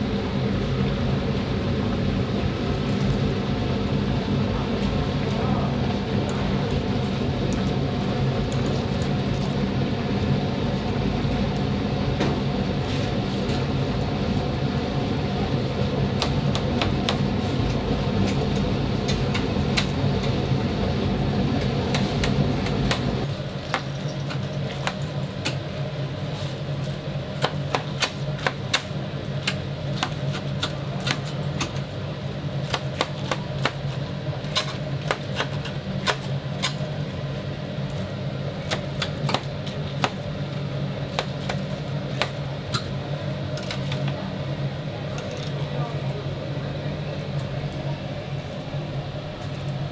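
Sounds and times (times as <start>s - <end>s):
low machine hum: 0.0s - 49.9s.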